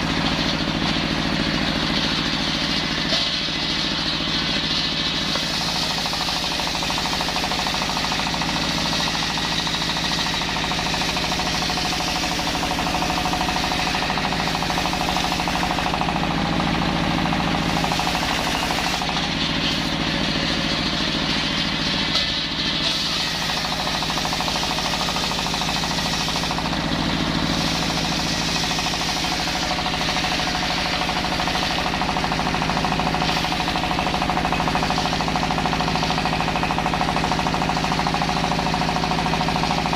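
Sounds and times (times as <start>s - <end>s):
circular saw cutting timber: 0.0s - 39.9s
engine drone: 0.0s - 39.9s.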